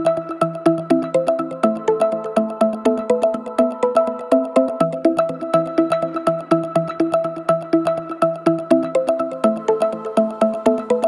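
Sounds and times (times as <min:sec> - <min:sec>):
plucked synth electronic music: 0:00.0 - 0:11.0.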